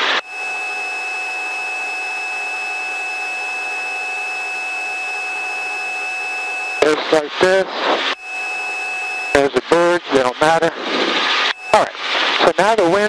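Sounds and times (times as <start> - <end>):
helicopter whirring: 0.0 - 13.0
high cabin whine: 0.0 - 13.0.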